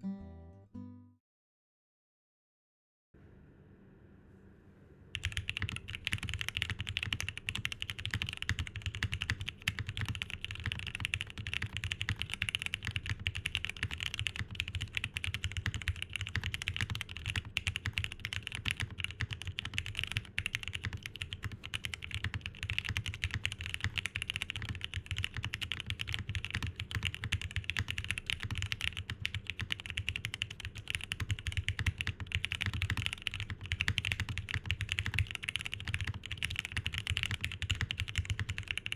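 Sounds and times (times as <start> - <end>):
mechanical keyboard typing: 5.2 - 38.9.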